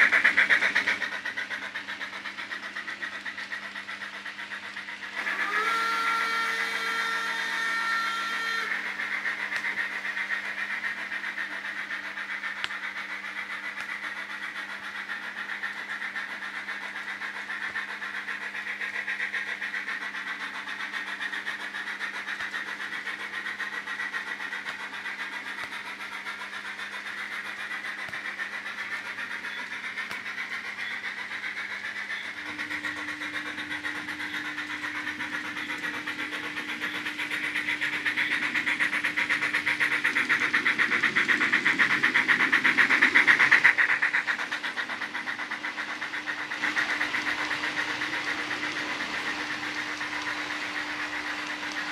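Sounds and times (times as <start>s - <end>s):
model train wheels rattling: 0.0s - 51.9s
motor hum: 0.0s - 51.9s.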